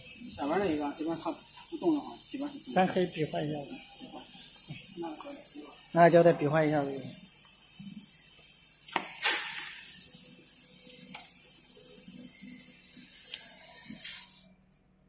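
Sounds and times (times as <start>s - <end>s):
high-pitched hiss: 0.0s - 14.5s.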